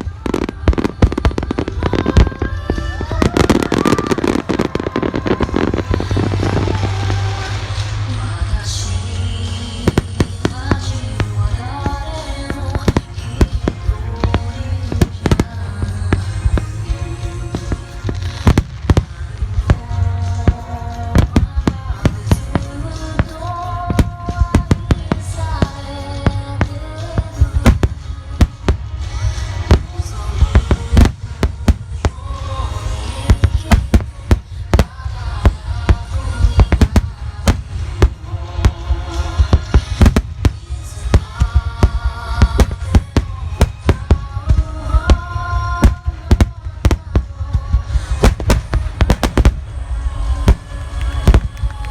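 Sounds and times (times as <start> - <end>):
fireworks bursting: 0.0 - 51.9
music from loudspeakers: 0.0 - 51.9.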